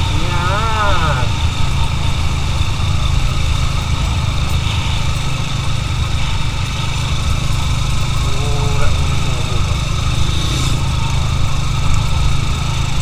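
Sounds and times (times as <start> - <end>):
constant rushing noise: 0.0 - 13.0
motorcycle engine rumbling: 0.0 - 13.0.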